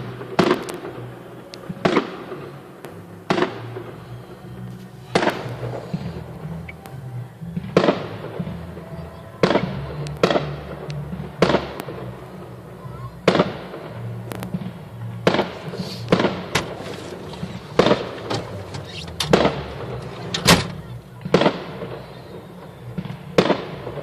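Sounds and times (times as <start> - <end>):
fireworks bangs with echo: 0.0 - 24.0.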